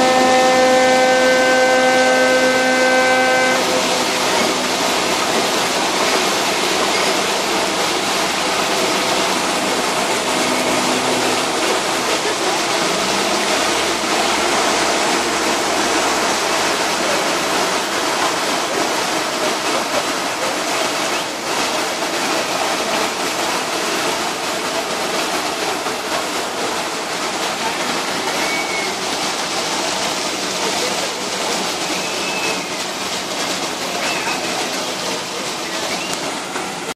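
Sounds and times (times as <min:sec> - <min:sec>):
water and wind rushing past boat: 0:00.0 - 0:36.9.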